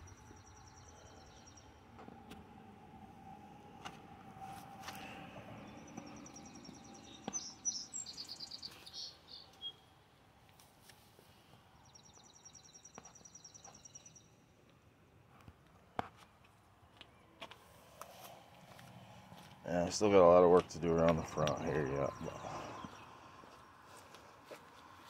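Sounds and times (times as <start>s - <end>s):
faint outdoor background noise: 0.0s - 25.0s.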